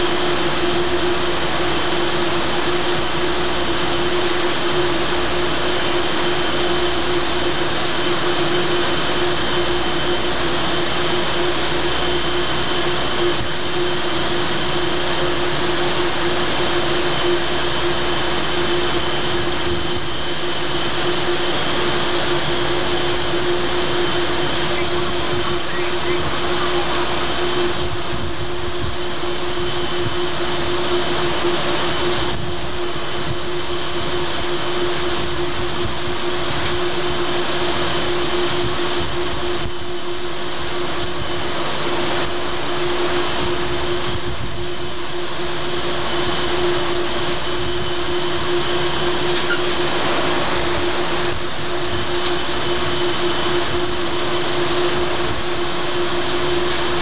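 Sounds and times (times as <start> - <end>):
ship machinery hum: 0.0 - 57.0
wind and sea rushing: 0.0 - 57.0.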